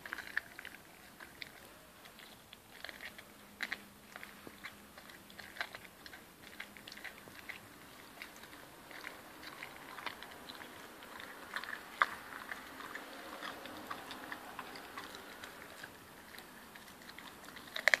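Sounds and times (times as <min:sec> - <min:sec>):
dog chewing meat and bone: 0:00.0 - 0:18.0.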